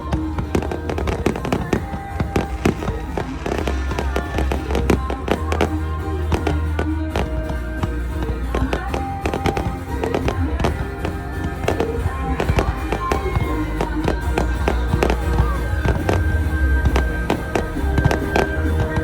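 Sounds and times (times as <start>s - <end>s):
fireworks bangs and crackles: 0.0s - 19.0s
music with heavy bass: 0.0s - 19.0s.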